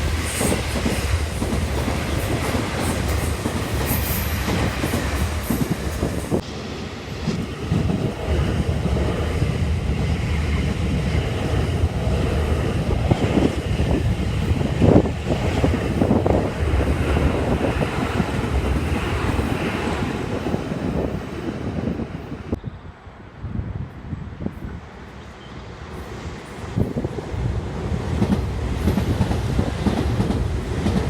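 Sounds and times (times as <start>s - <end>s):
electric train rumbling past: 0.0s - 31.0s
wind buffeting microphone: 0.0s - 31.0s.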